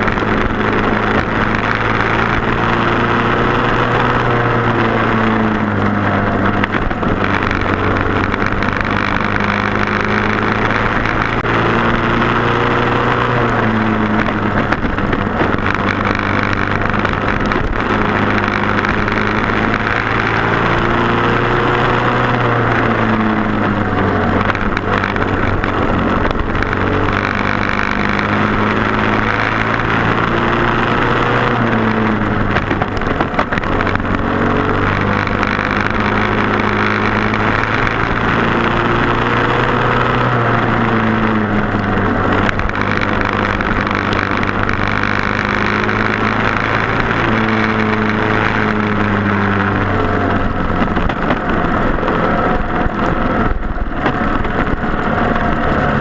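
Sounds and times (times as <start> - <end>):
racing kart engines: 0.0 - 56.0.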